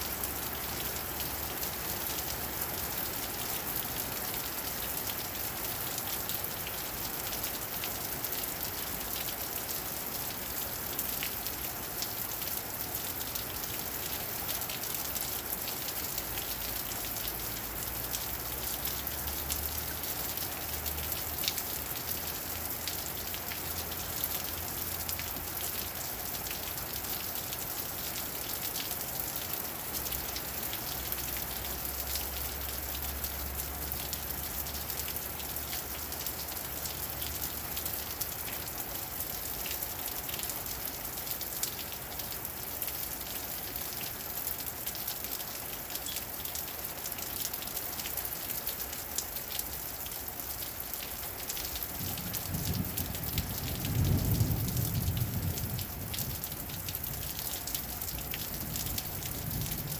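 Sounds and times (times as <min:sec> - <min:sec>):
rain on pavement and roofs: 0:00.0 - 0:59.9.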